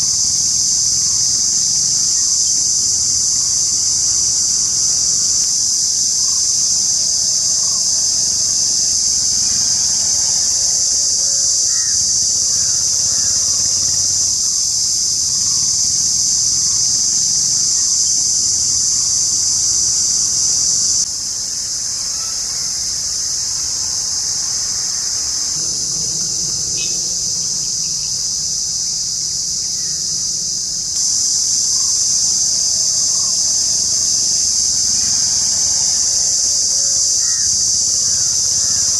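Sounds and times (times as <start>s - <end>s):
cicada buzzing: 0.0s - 38.9s.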